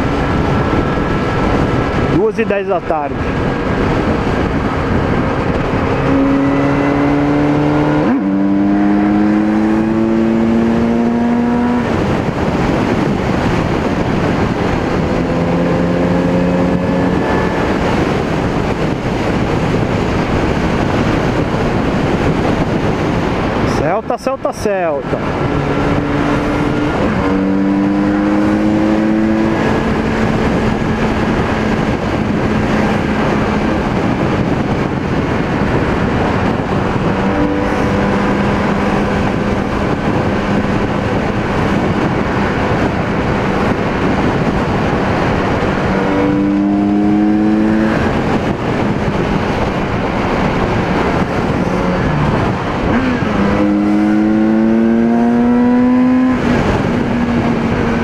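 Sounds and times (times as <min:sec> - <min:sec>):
motorcycle engine revving: 0:00.0 - 0:23.7, 0:25.0 - 0:58.0
wind noise on microphone: 0:00.0 - 0:58.0.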